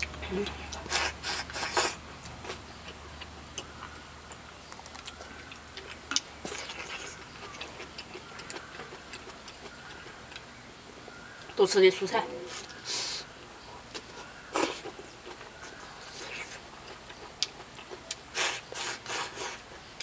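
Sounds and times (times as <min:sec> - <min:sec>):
chewing: 0:00.0 - 0:10.5, 0:12.5 - 0:20.0.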